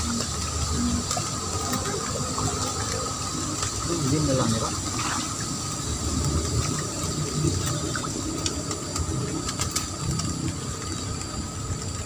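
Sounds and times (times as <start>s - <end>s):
hissing outdoor background: 0.0s - 12.0s.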